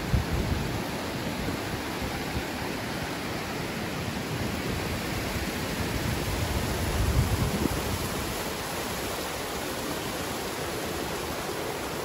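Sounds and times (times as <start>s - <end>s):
water rushing over cascades: 0.0s - 12.0s.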